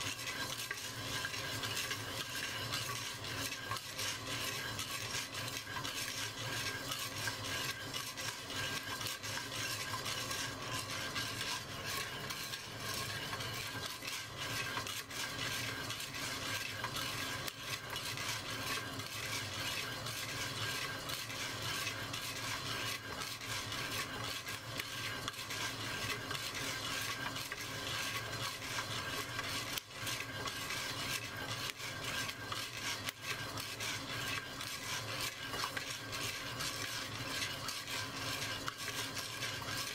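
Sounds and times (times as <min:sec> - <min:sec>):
coffee beans scraping in pot: 0:00.0 - 0:39.9.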